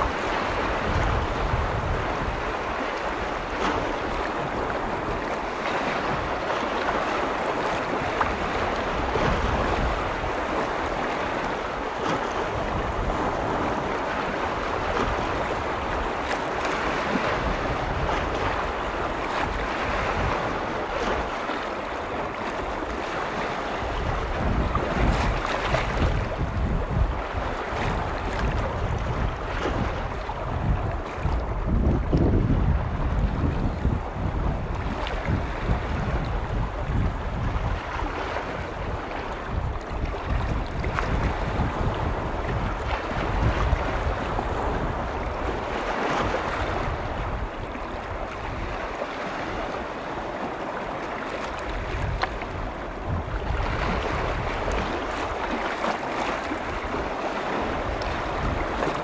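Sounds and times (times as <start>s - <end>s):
lake waves washing on shore: 0.0s - 59.0s
wind gusting on microphone: 0.0s - 59.0s.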